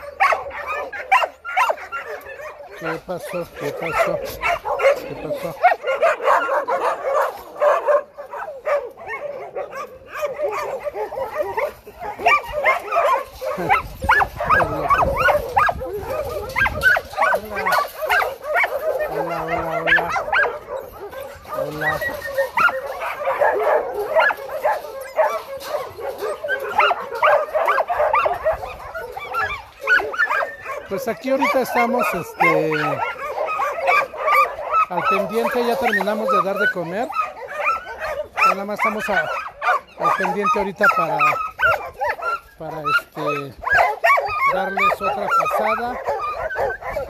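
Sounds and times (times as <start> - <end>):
dogs barking yipping and whining: 0.0 - 47.0.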